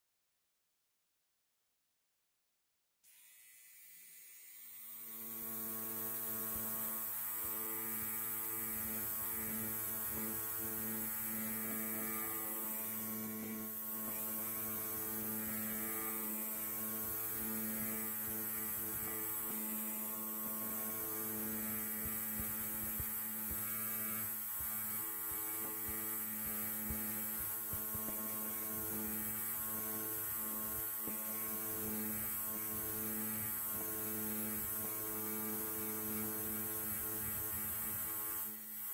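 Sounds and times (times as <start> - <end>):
electric hair clipper buzzing: 3.1 - 38.9.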